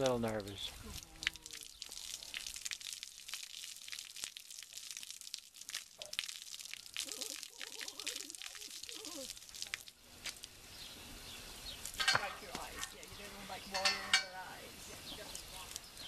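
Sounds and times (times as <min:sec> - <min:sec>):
hose water splashing: 0:00.0 - 0:16.0.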